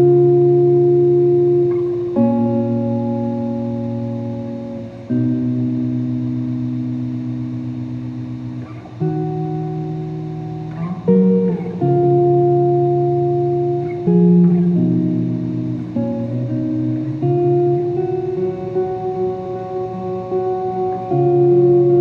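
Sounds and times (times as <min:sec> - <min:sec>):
guitar playing slow chords: 0:00.0 - 0:22.0.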